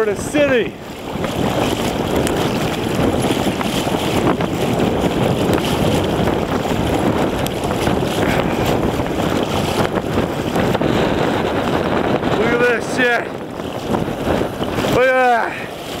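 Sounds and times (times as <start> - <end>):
floodwater rushing: 0.0 - 16.0
wind buffeting microphone: 0.0 - 16.0.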